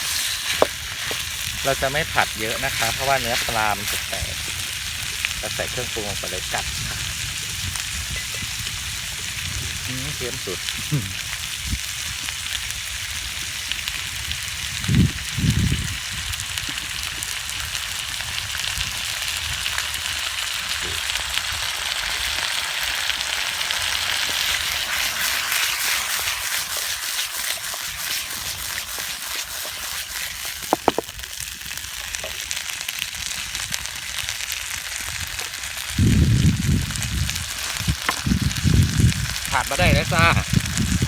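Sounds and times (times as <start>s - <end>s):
food sizzling in a frying pan: 0.0s - 41.0s.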